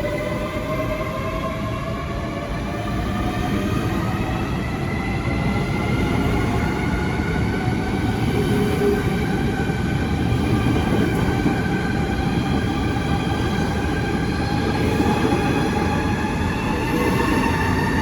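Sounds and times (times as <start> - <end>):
train whine: 0.0 - 18.0.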